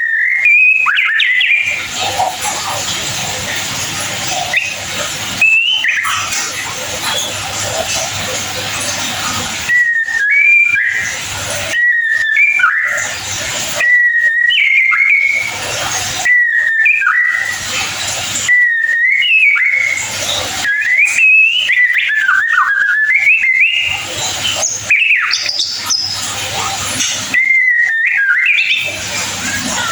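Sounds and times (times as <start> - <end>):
bird singing whistled phrases: 0.0 - 29.9.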